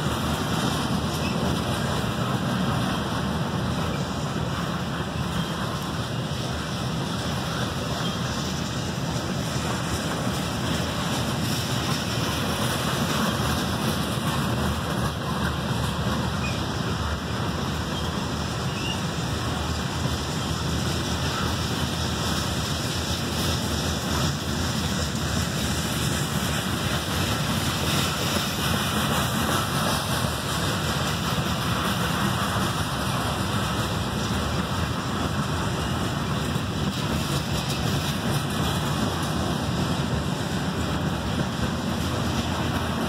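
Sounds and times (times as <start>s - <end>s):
freight train cars rolling on rails: 0.0s - 43.0s.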